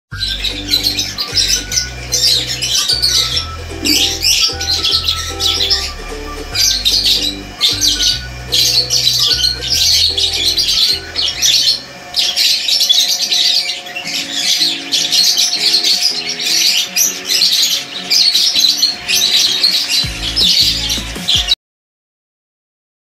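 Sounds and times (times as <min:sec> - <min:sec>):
background music: 0:00.1 - 0:12.4, 0:14.1 - 0:21.6
parrots chattering and squawking: 0:00.2 - 0:21.5.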